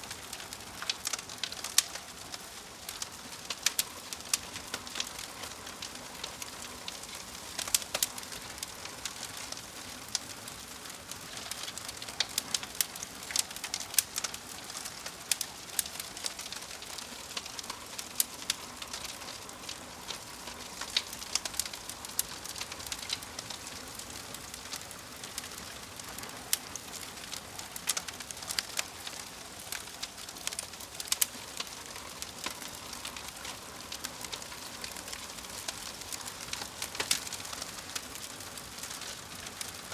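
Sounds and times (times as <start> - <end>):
logs crackling and popping: 0.0 - 39.9
fire hissing: 0.1 - 39.9.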